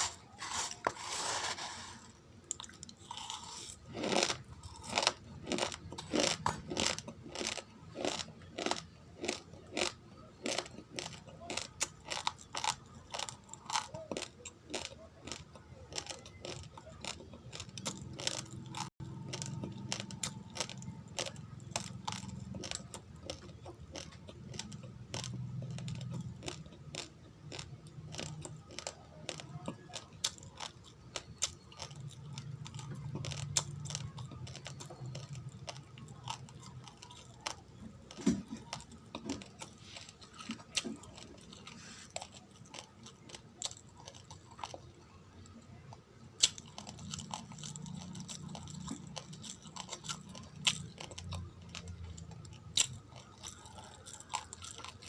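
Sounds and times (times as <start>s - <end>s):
person chewing raw rice: 0.0s - 55.0s.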